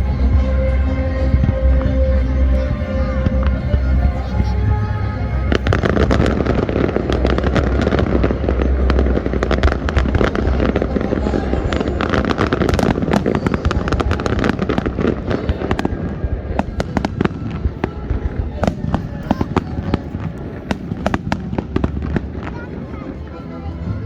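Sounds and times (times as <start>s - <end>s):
fireworks crackling and bangs: 0.0s - 24.0s
heavy low rumble: 0.0s - 24.0s.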